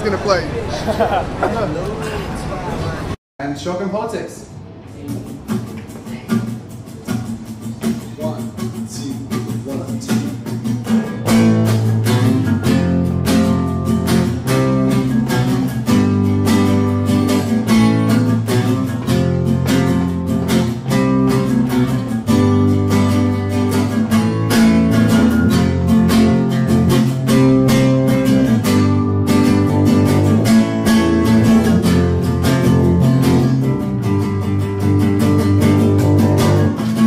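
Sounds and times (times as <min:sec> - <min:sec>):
acoustic guitar strumming chords: 0:05.1 - 0:37.0.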